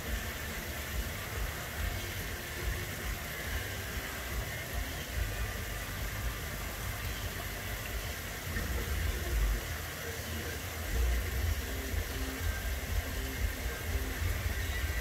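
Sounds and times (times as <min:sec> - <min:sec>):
small waterfall splashing into pond: 0:00.0 - 0:15.0.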